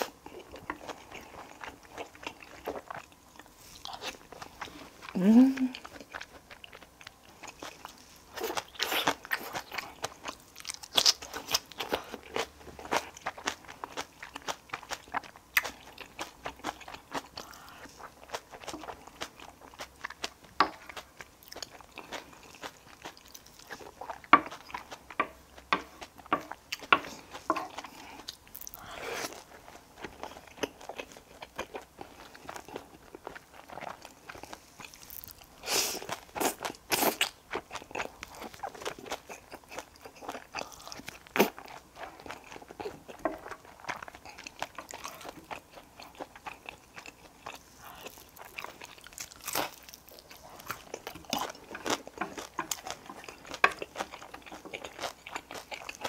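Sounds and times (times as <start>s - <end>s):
person chewing and crunching: 0.0s - 56.0s.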